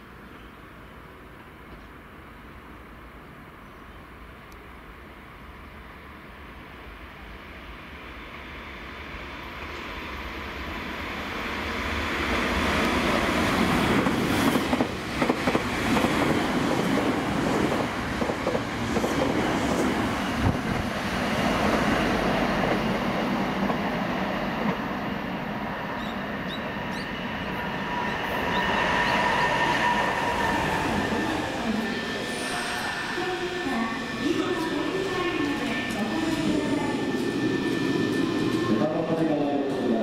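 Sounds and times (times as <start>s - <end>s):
electric train running on rails: 4.1s - 40.0s.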